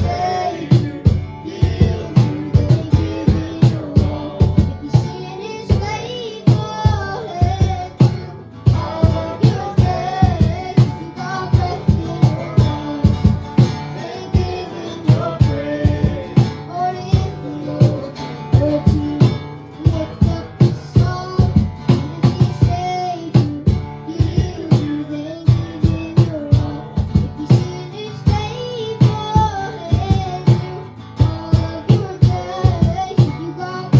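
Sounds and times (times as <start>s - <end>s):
driving drum beat: 0.0s - 33.9s
guitar playing: 0.0s - 33.9s
people singing: 0.0s - 33.9s.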